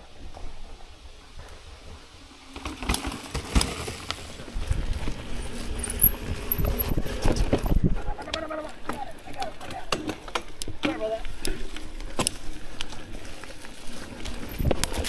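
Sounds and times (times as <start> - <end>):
bike tyres on leaves and rock: 0.0 - 15.0
bike knocking and rattling: 1.4 - 15.0.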